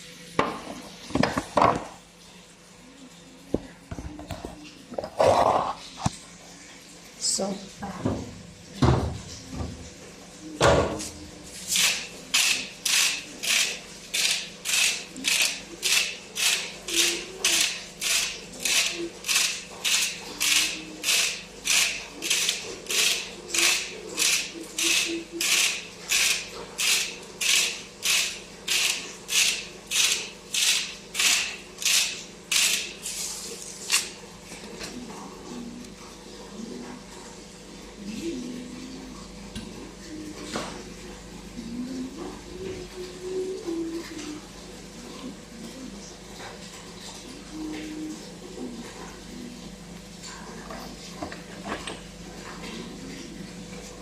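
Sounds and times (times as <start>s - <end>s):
rhythmic scraping in food preparation: 3.5s - 7.0s, 11.0s - 54.0s.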